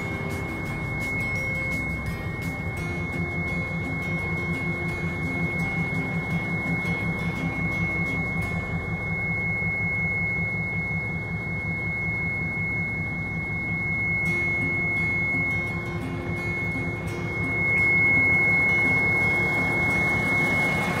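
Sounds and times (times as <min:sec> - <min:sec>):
constant high-pitched tone: 0:00.0 - 0:21.0
diesel engine idling: 0:00.0 - 0:21.0.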